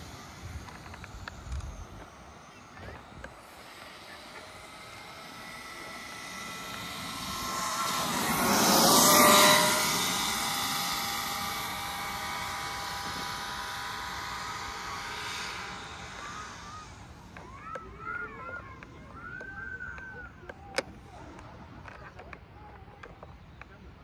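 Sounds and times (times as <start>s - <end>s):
rc car motor whine: 0.0s - 23.6s.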